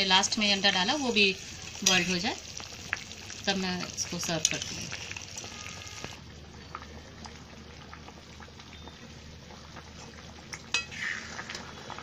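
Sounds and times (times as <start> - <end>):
curry bubbling at a simmer: 0.0 - 12.0.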